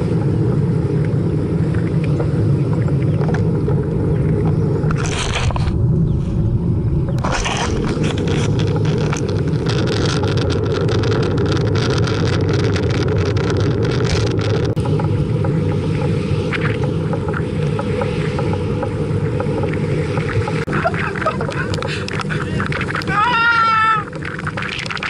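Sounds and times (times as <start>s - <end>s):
crackles and rattles: 0.0s - 25.0s
road noise: 0.0s - 25.0s
wind rumbling on microphone: 0.0s - 25.0s.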